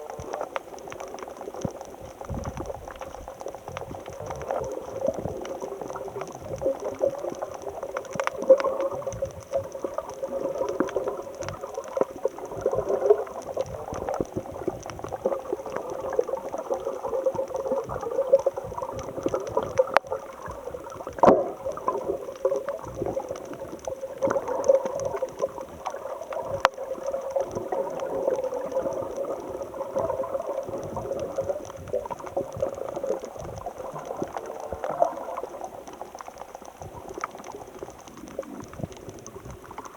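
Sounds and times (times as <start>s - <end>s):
seawater churning and bubbling: 0.0s - 39.9s
sharp clicks and pops: 0.0s - 39.9s.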